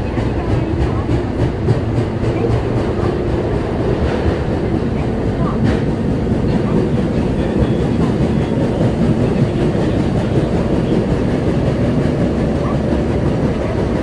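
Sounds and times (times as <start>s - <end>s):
subway car wheels rumbling on rail: 0.0s - 14.0s.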